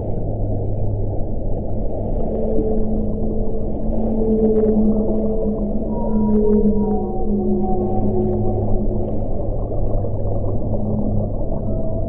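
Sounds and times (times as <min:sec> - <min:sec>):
deep hum: 0:00.0 - 0:12.0
low underwater drone: 0:00.0 - 0:12.0
whale calls: 0:02.2 - 0:12.0.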